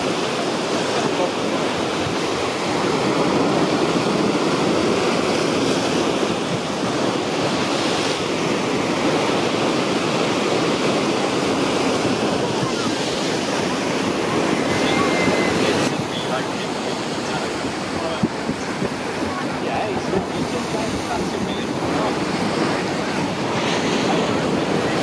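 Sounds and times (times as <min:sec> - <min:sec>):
water rushing: 0:00.0 - 0:25.0
wind rushing: 0:00.0 - 0:25.0.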